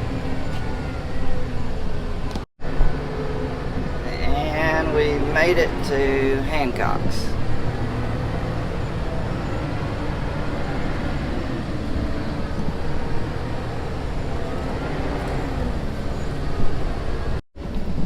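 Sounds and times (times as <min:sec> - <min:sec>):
road traffic noise: 0:00.0 - 0:18.0
vehicle engine rumbling: 0:00.0 - 0:18.0.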